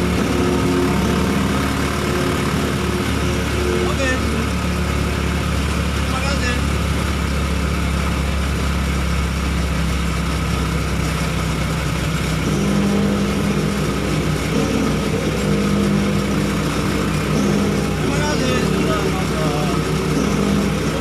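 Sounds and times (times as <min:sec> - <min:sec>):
higher engine note: 0:00.0 - 0:21.0
motorcycle engine running: 0:00.0 - 0:21.0.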